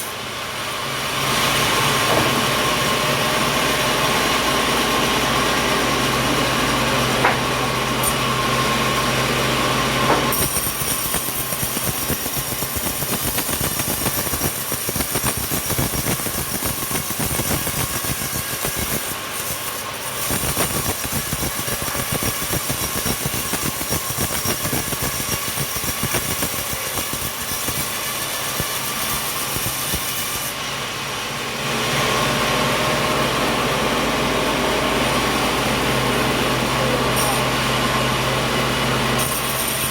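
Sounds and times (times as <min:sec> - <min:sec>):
saw blade cutting wood: 0:00.0 - 0:00.2, 0:01.0 - 0:30.6, 0:36.4 - 0:38.1, 0:38.7 - 0:39.9
sawmill saw humming: 0:00.0 - 0:39.9.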